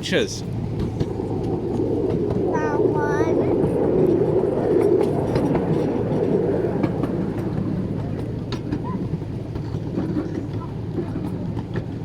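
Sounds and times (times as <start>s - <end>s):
miniature train wheels rumbling: 0.0s - 12.0s.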